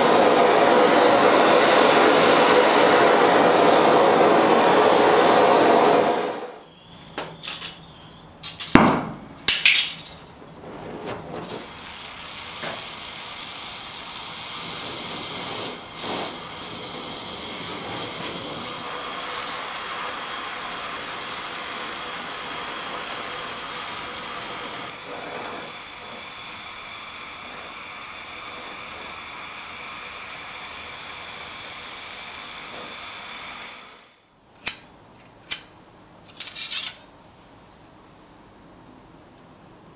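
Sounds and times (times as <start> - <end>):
gas torch hissing: 0.0 - 8.3, 9.6 - 34.4.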